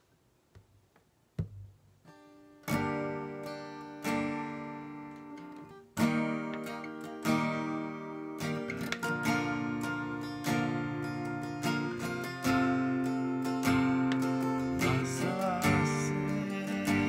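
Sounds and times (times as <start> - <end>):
acoustic guitar chords strummed: 1.4 - 17.0.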